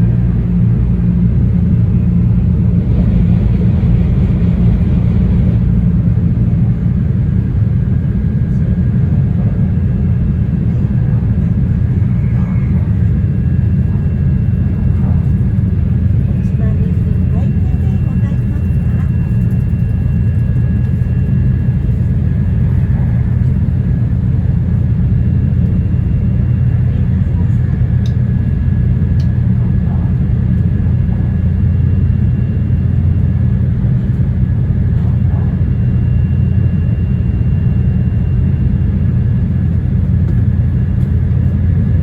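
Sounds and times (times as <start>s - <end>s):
train interior low rumble: 0.0s - 42.0s.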